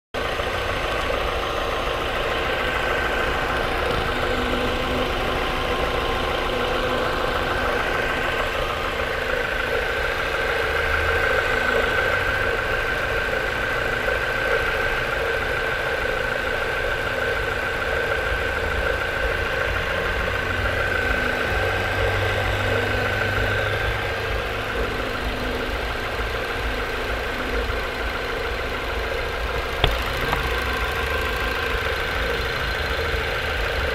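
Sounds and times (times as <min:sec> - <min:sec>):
car engine idling: 0:00.2 - 0:33.9
steady high belt whine: 0:00.2 - 0:33.9.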